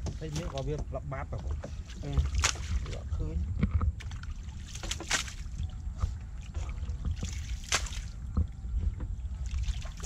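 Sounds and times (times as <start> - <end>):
steady low rumble: 0.0 - 10.0
water splashing and sloshing: 0.0 - 10.0.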